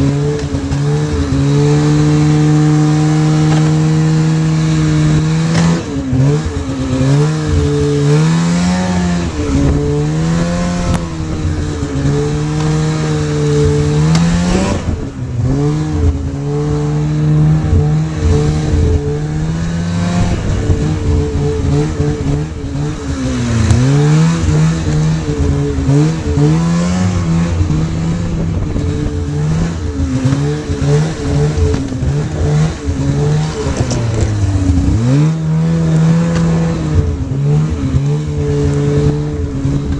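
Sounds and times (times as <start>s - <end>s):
rushing noise of motion: 0.0s - 39.9s
snowmobile engine revving: 0.0s - 39.9s.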